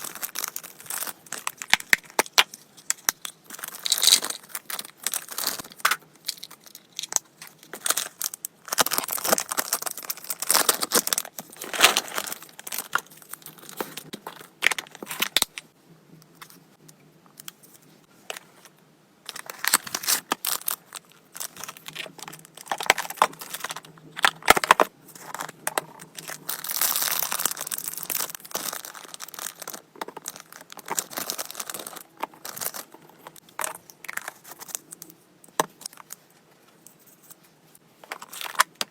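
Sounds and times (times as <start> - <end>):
packaging crinkling and tearing: 0.0 - 15.5, 19.3 - 35.0.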